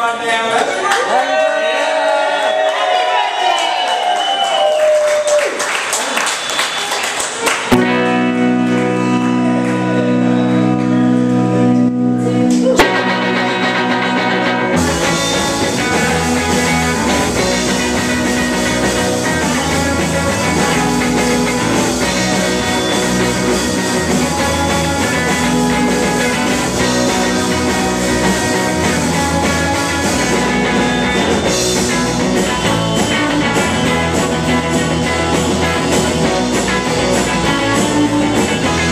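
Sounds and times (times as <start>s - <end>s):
rock band playing: 6.7s - 38.9s.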